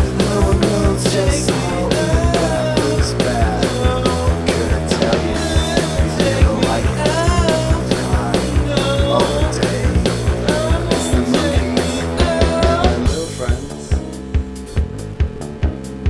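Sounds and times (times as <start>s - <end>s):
rock music with drums and singing: 0.0s - 16.0s.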